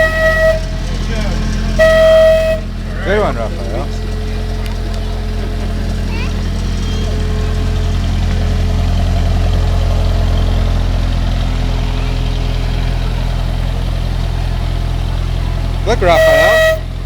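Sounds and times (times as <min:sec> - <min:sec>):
train engine idling: 0:00.0 - 0:17.0.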